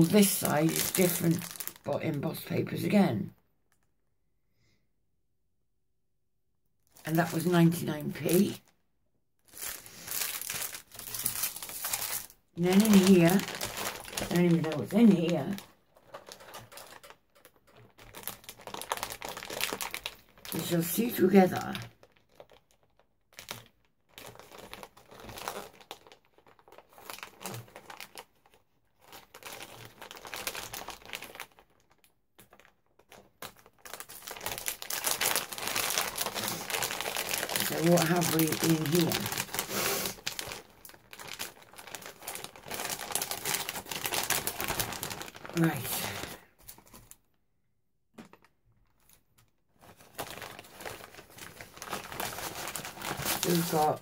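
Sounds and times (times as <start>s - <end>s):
paper bag crinkling: 0.0s - 2.4s, 6.9s - 8.6s, 9.4s - 47.2s, 49.8s - 54.0s.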